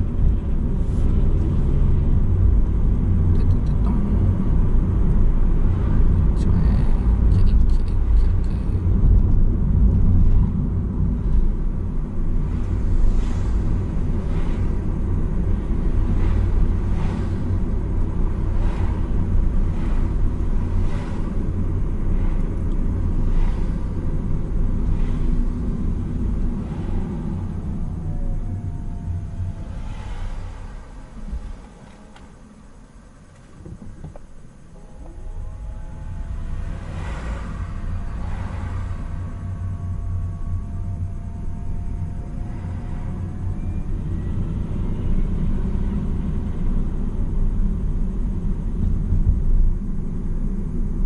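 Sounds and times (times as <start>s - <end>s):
engine and tyre rumble: 0.0s - 51.0s.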